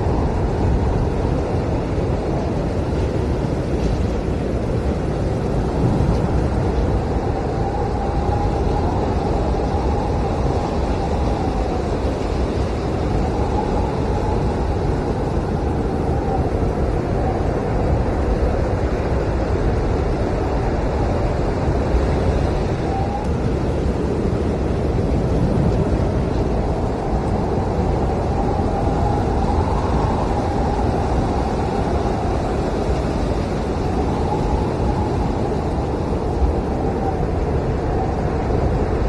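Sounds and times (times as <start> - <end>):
blizzard wind howling: 0.0 - 39.0.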